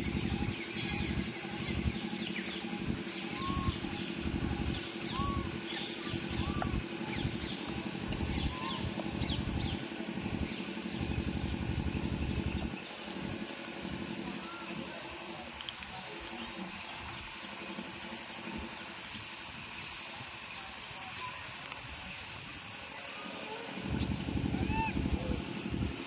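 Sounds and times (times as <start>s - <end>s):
low engine hum: 0.0s - 20.9s.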